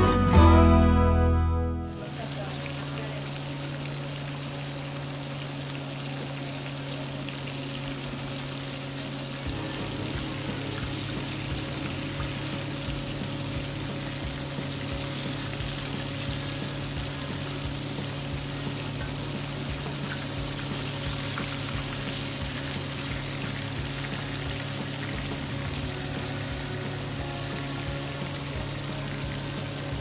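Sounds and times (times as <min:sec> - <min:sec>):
hot oil sizzling and crackling: 0:01.8 - 0:30.0.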